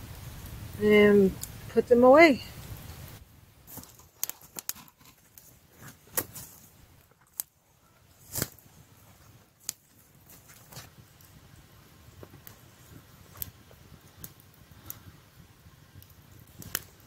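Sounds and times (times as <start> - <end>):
sharp fire pops: 0.0 - 17.0
wood fire crackling: 0.0 - 17.0.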